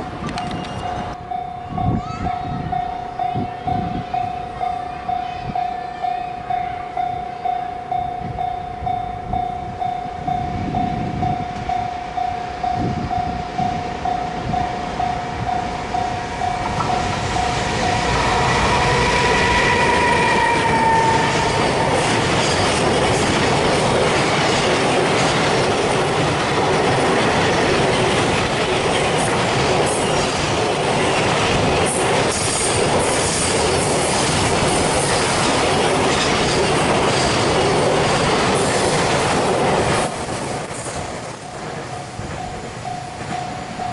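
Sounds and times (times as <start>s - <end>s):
train passing rumble and clatter: 0.0s - 43.9s.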